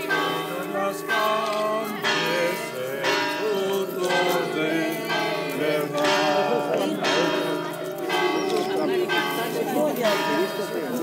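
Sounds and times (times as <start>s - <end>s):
people singing: 0.0s - 10.1s
church bells pealing: 0.0s - 11.0s.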